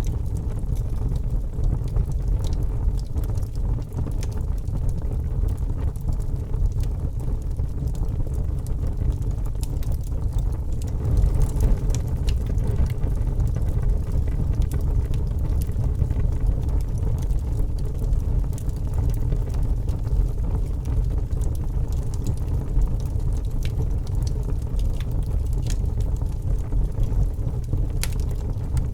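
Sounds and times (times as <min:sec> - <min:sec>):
fire crackles and pops: 0:00.0 - 0:28.9
log fire burning: 0:00.0 - 0:28.9.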